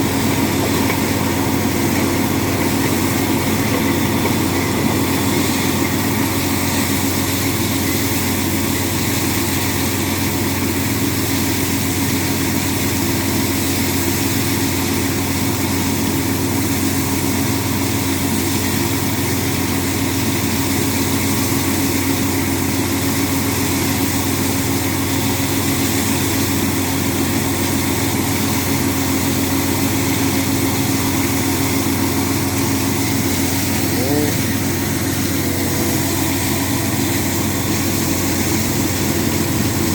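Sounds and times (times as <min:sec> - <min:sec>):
drilling rig engine hum: 0:00.0 - 0:39.9.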